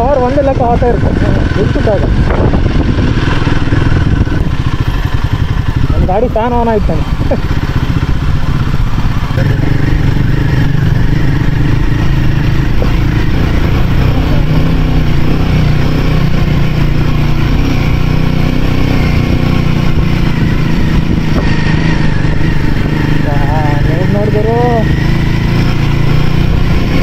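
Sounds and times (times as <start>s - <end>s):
single-cylinder engine running: 0.0s - 27.0s.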